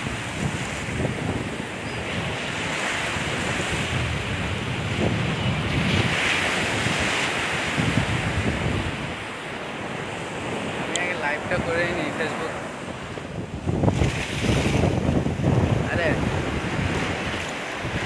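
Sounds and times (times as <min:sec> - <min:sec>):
waves breaking on beach: 0:00.0 - 0:18.0
wind buffeting microphone: 0:00.0 - 0:18.0.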